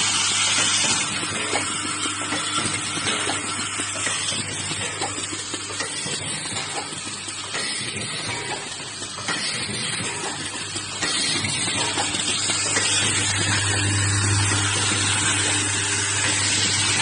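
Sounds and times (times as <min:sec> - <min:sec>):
welding machine hissing: 0:00.0 - 0:17.0
rapid mechanical ticking: 0:00.6 - 0:17.0.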